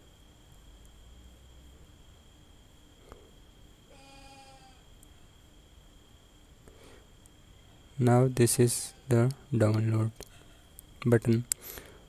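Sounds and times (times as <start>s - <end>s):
high-pitched whine: 0.0s - 12.0s
light hiss: 1.8s - 12.0s.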